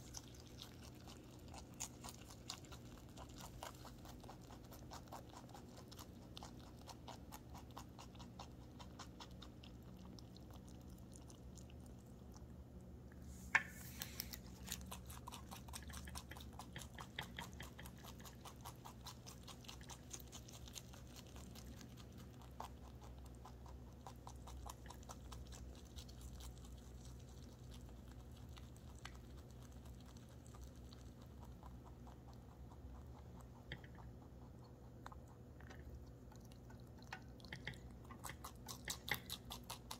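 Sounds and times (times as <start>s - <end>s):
rabbit chewing crisply: 0.0s - 39.9s.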